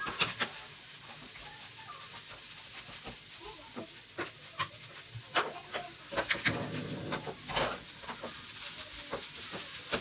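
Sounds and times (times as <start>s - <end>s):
food sizzling in frying pan: 0.0s - 10.0s.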